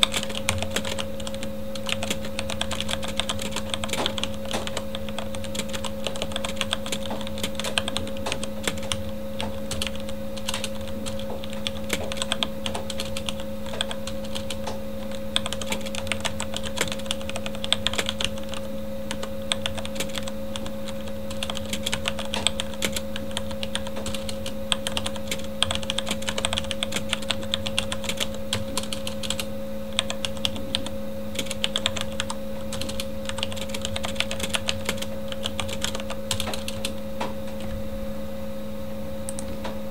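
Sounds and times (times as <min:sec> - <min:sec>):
fast typing on mechanical keyboard: 0:00.0 - 0:37.0
computer fan humming: 0:00.0 - 0:39.9.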